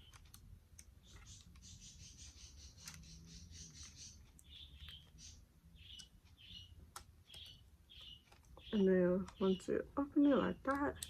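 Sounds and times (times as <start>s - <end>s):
faint bird song: 0.0s - 11.0s.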